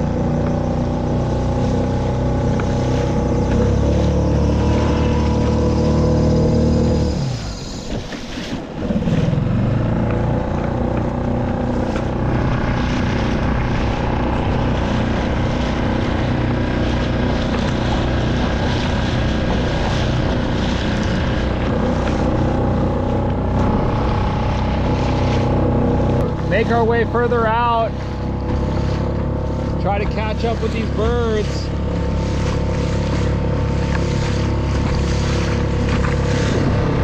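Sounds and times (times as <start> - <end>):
outboard motor running: 0.0 - 37.0
water and wind noise: 0.0 - 37.0.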